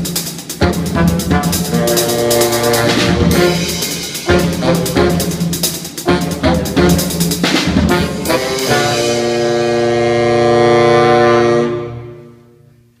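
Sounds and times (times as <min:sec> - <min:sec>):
brass music with drums: 0:00.0 - 0:12.7.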